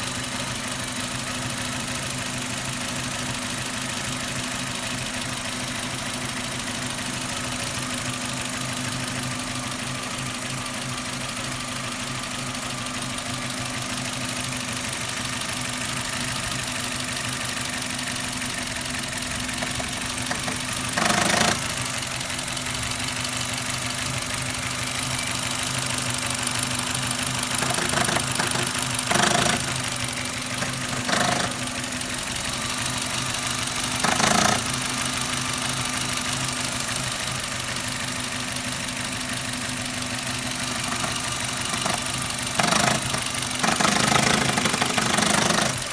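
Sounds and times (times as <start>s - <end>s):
car engine idling with knocking: 0.0s - 45.9s.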